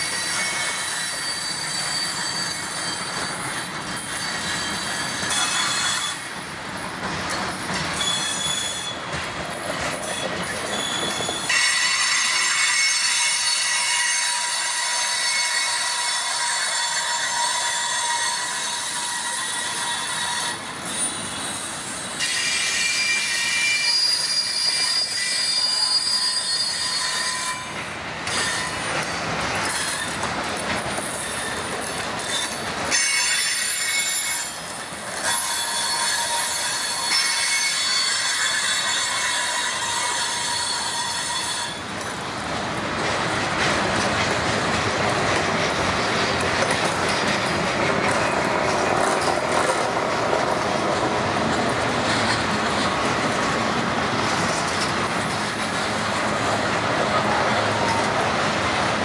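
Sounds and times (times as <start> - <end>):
train wheels squealing: 0.0 - 42.2, 45.4 - 51.0
wheels rumbling on rail: 0.0 - 59.0.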